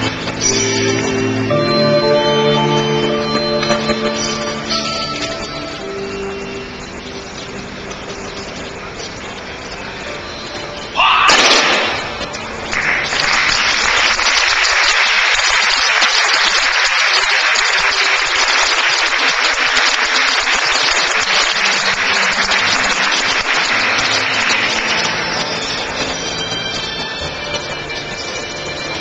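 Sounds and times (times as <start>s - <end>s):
audience clapping: 0.0s - 6.4s, 11.8s - 29.0s.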